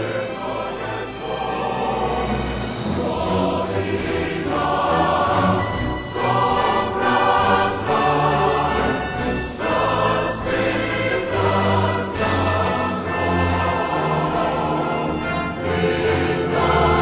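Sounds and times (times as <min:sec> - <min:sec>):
choir singing with orchestra: 0:00.0 - 0:17.0.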